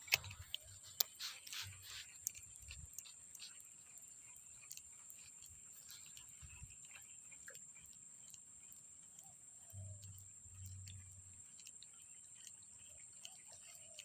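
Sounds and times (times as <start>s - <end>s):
light ticks: 0.0s - 14.0s.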